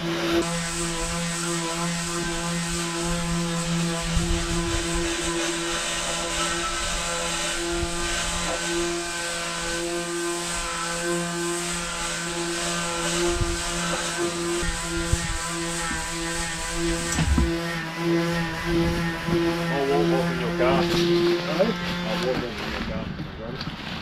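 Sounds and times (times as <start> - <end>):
small electric motor humming: 0.0 - 24.0.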